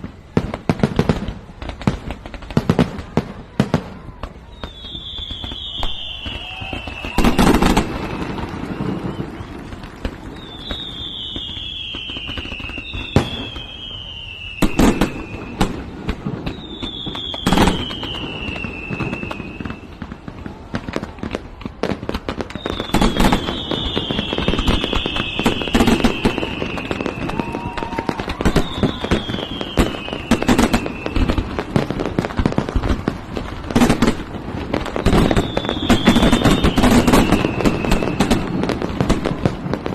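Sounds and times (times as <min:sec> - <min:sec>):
falling firework whistles: 0:00.0 - 0:39.9
firework crackling: 0:00.0 - 0:39.9.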